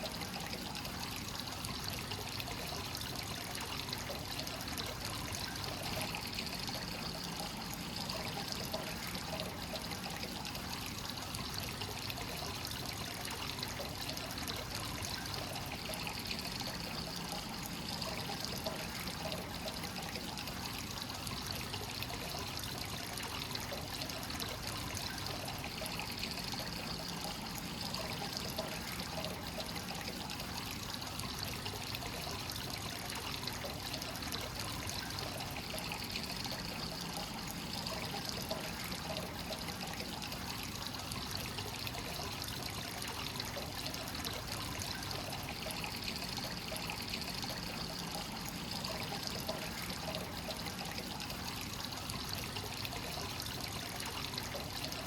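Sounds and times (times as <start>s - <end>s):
water pouring into a bath: 0.0s - 55.0s.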